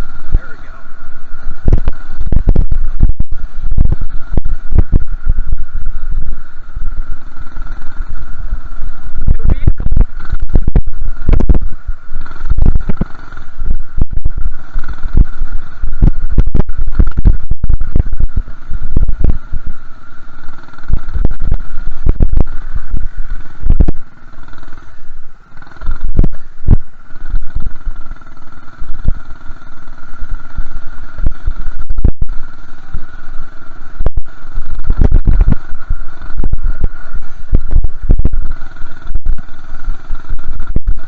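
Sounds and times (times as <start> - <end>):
low thumping and buffeting: 0.0 - 41.0
minibike engine under throttle: 0.0 - 41.0.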